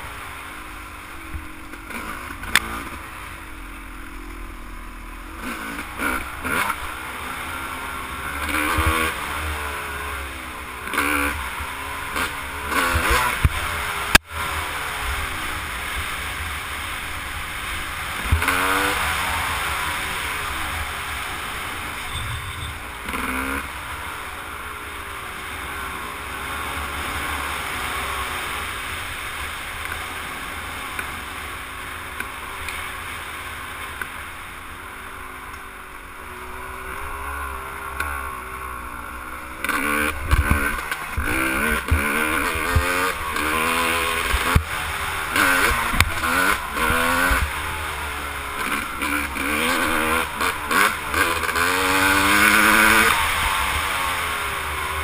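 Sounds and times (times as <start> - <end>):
dirt bike engine revving: 0.0 - 33.8, 35.0 - 55.0.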